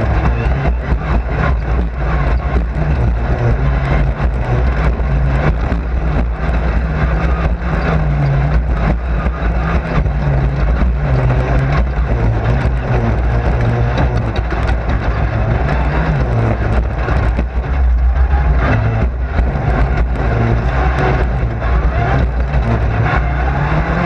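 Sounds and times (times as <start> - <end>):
knocks and rattles: 0.0 - 24.0
race car engine: 0.0 - 24.0.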